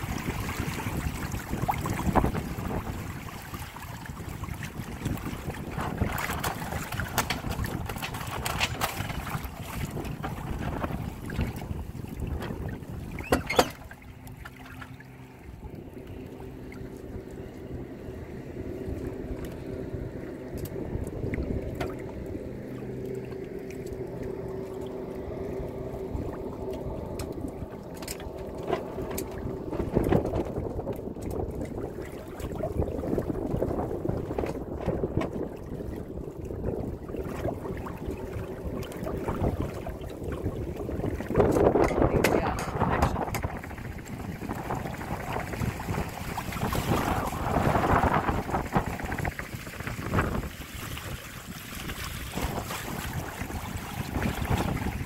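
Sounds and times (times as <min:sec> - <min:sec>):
wind buffeting microphone: 0:00.0 - 0:14.4, 0:15.4 - 0:55.0
water splashing along hull: 0:00.0 - 0:55.0.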